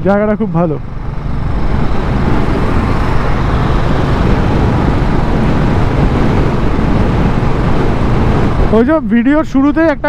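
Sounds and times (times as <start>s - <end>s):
motorcycle engine: 0.1s - 8.8s
tyre and wind noise: 0.8s - 10.0s.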